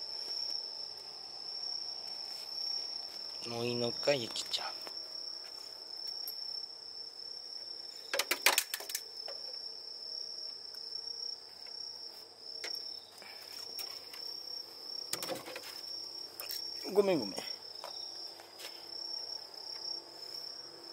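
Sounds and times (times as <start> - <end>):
crickets chirring: 0.0 - 20.9.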